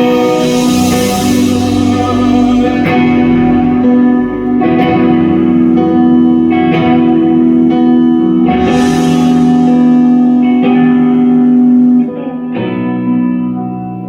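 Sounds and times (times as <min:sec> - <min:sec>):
guitar chords ringing with reverb: 0:00.0 - 0:14.0.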